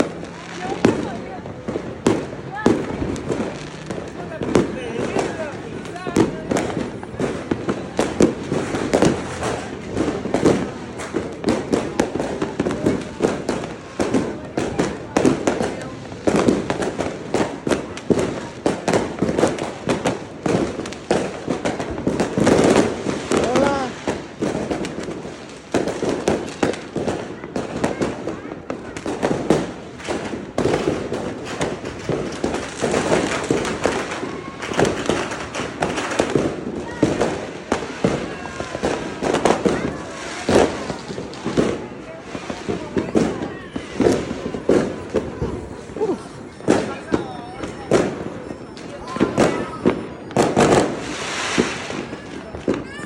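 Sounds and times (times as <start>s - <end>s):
fireworks bangs and pops: 0.0s - 53.0s.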